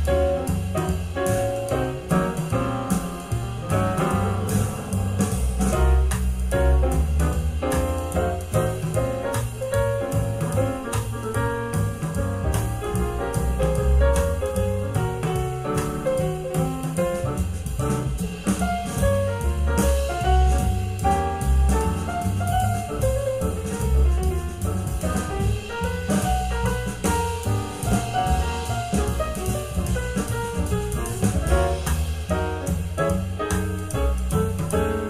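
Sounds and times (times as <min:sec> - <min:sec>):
jazz instrumental through speaker: 0:00.0 - 0:35.0.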